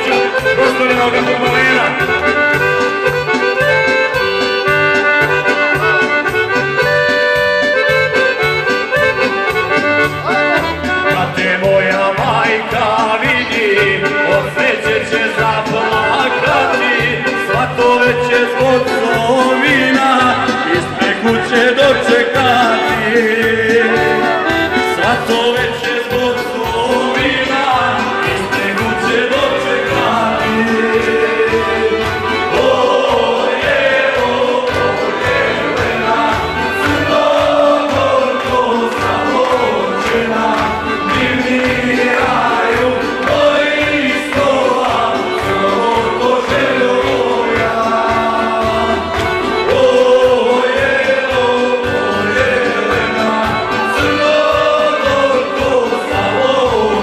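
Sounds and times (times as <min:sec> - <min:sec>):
music with steady beat: 0:00.0 - 0:57.0
group singing in chorus: 0:11.2 - 0:57.0.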